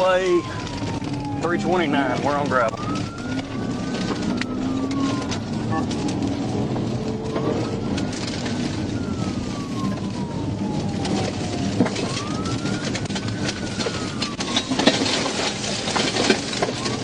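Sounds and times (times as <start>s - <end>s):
car engine and tyre noise: 0.0s - 17.0s
police siren wailing: 0.0s - 17.0s.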